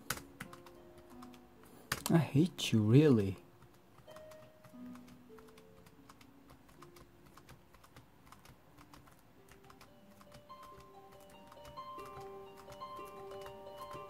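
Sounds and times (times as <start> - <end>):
laptop keyboard typing: 0.0 - 2.2, 3.2 - 14.0
faint background music: 0.0 - 14.0.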